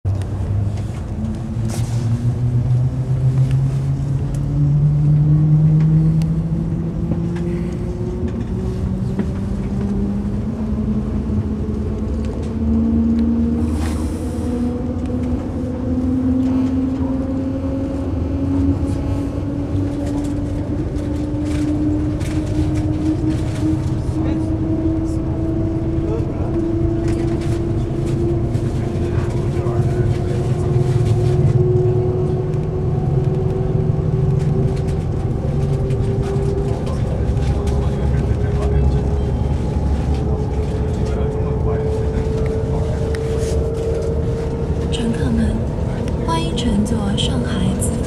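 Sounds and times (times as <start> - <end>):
low train rumble: 0.1 - 48.0
train electric hum rising: 0.1 - 48.0.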